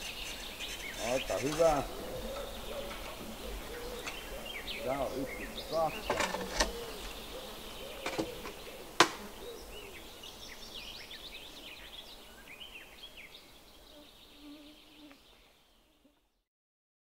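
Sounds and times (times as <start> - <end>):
birds chirping: 0.0 - 16.4.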